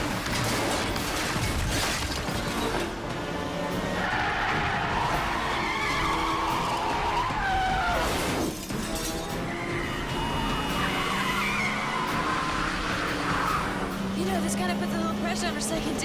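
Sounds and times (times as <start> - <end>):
car engines: 0.0 - 16.0
tyres squealing and skidding: 2.4 - 16.0.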